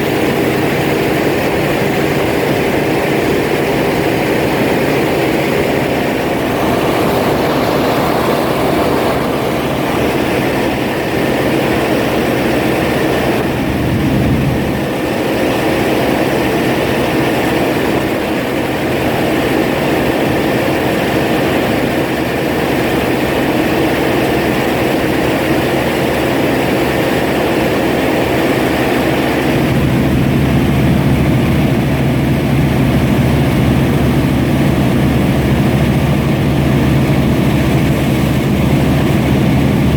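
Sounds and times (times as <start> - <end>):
combine harvester engine drone: 0.0 - 39.9
whir of harvester machinery: 0.0 - 39.9.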